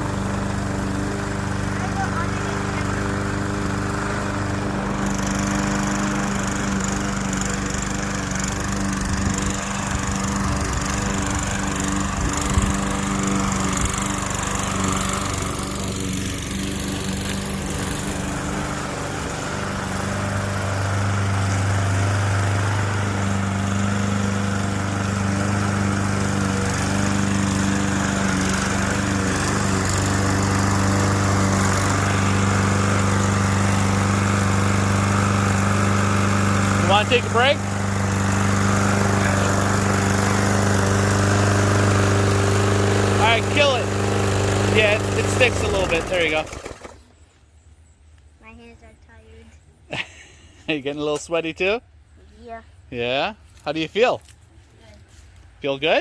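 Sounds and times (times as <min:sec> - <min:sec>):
lawn mower engine cutting grass: 0:00.0 - 0:47.4, 0:50.4 - 0:56.0.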